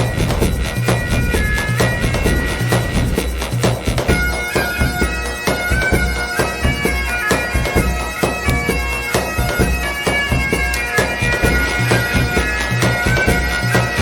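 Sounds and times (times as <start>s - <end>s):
reedy melody over steady beat: 0.0s - 14.0s.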